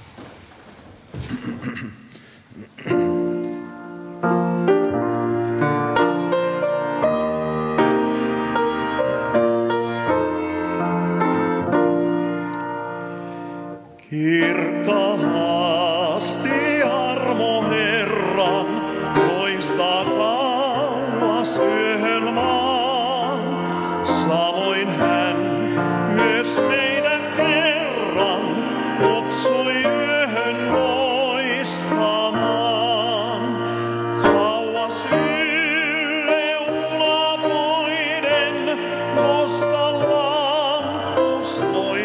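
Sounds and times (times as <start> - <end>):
grand piano: 0.0 - 42.0
man singing classical song: 2.5 - 12.4, 13.8 - 42.0.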